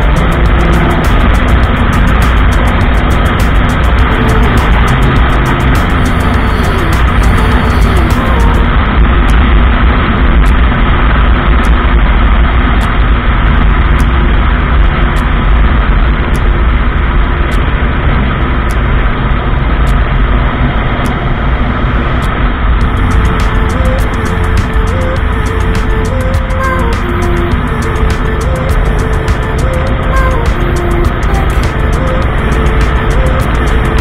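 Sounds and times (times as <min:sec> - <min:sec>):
motorcycle engine cruising: 0:00.0 - 0:34.0
wind rushing on microphone: 0:00.0 - 0:34.0.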